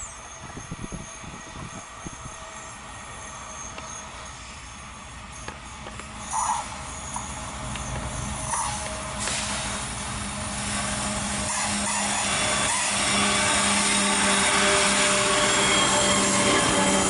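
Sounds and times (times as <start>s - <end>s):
diesel locomotive engine drone: 0.0s - 17.0s
wheel and rail noise: 0.0s - 17.0s.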